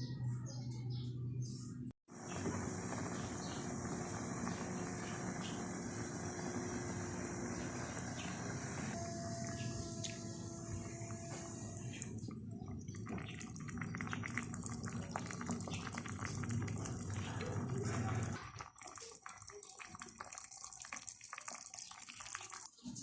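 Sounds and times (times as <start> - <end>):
water running: 2.1 - 22.7.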